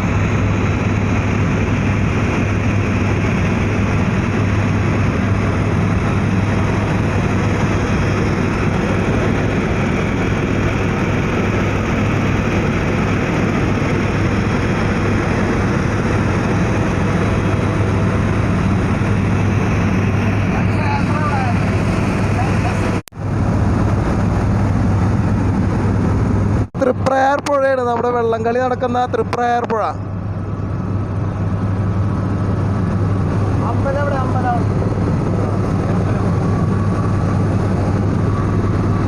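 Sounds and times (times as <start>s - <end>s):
helicopter engine and rotors drone: 0.0s - 39.0s.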